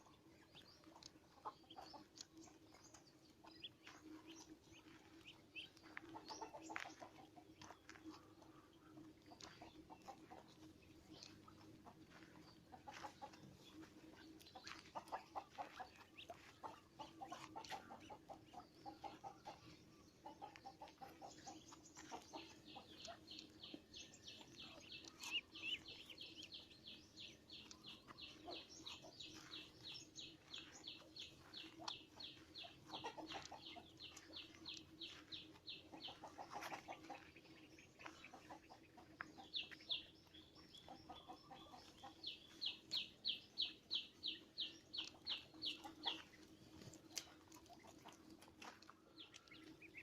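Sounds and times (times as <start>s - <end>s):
bird clucking: 0.0s - 48.8s.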